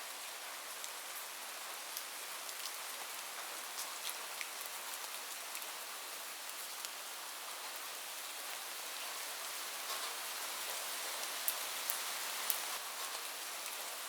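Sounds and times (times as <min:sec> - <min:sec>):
heavy rain on a roof: 0:00.0 - 0:14.0.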